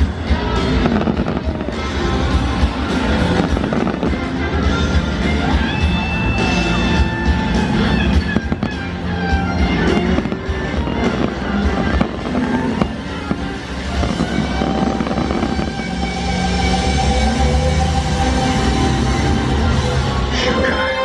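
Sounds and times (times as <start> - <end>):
fireworks bangs: 0.0 - 6.4, 7.4 - 19.8
music over loudspeakers: 0.0 - 21.0.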